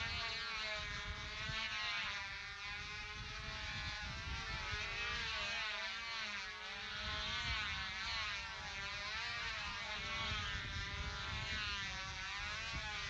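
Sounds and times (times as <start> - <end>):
model airplane engines buzzing: 0.0 - 13.0.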